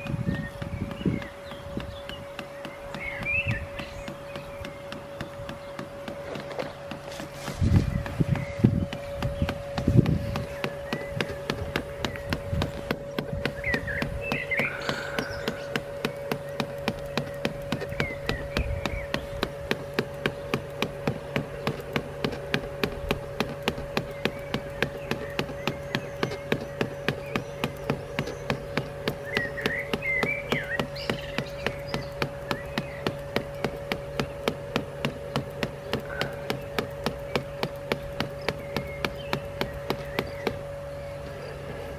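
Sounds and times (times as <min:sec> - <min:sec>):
regular ticking: 0:00.0 - 0:41.9
robotic lawnmower humming: 0:00.0 - 0:41.9.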